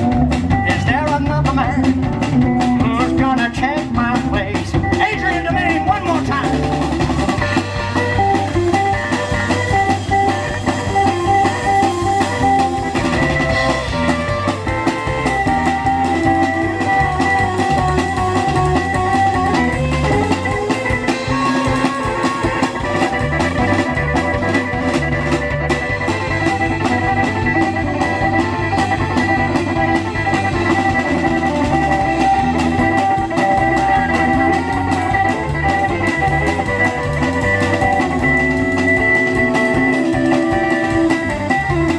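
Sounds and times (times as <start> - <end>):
drum kit beat: 0.0 - 41.9
electric guitar playing: 0.0 - 41.9.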